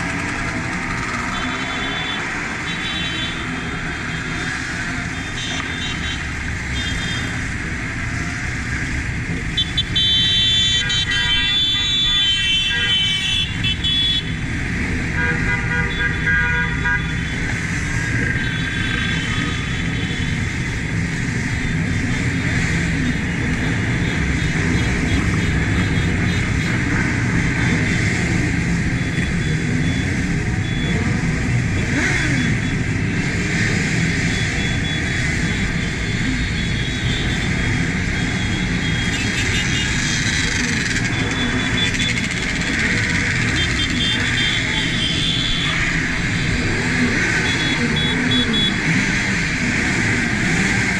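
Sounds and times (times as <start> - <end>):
motorcycle engine: 0.0 - 10.0, 17.0 - 50.9
vehicle horns: 0.9 - 4.4, 5.0 - 7.5, 9.4 - 14.4, 15.0 - 20.6, 22.5 - 49.1.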